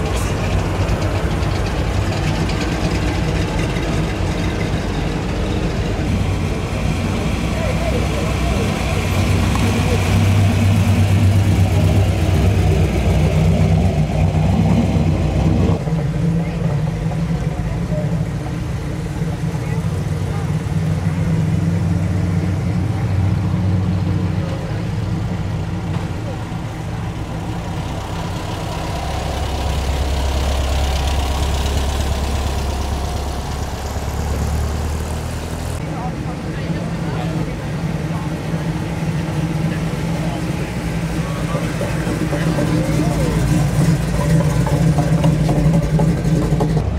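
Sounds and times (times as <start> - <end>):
car engine rumbling past: 0.0 - 46.9.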